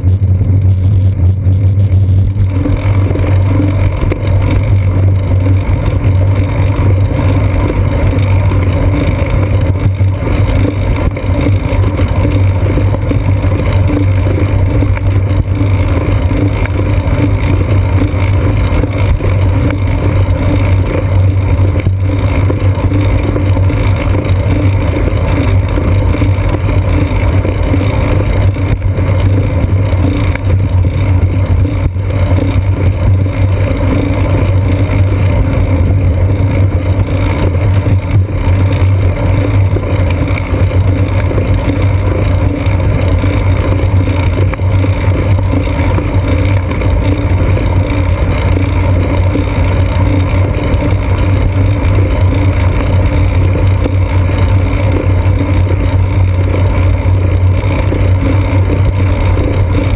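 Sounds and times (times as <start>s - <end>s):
wind and road vibration rumble: 0.0s - 59.9s.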